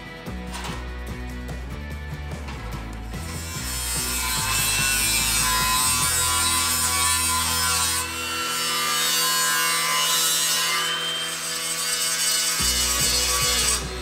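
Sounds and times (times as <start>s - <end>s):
angle grinder grinding steel: 2.5s - 14.0s.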